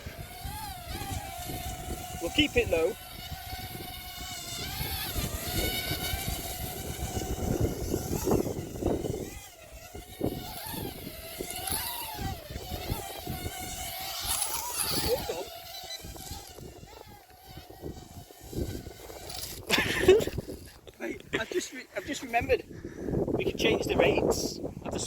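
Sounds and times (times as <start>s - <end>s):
drone propellers buzzing: 0.0s - 22.5s
wind rumbling on microphone: 0.0s - 25.0s.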